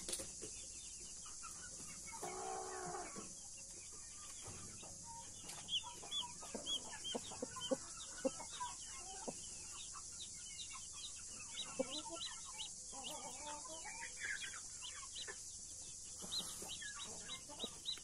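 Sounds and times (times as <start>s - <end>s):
chicks peeping: 0.0s - 18.0s
hen clucking: 1.2s - 18.0s.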